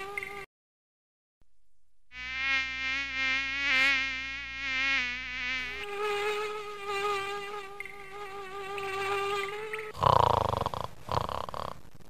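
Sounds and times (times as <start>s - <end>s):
cartoon mosquito buzzing: 0.0s - 0.5s, 2.1s - 11.5s.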